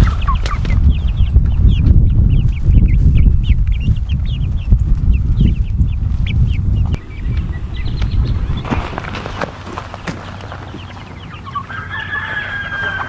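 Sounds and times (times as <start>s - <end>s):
steady low rumble: 0.0s - 11.9s
chicks peeping: 0.0s - 13.0s.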